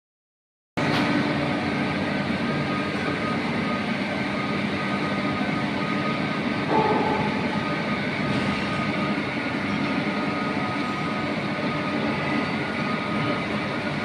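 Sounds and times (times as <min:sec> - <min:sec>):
machine humming: 0:00.8 - 0:14.0
high machine tone: 0:02.6 - 0:14.0.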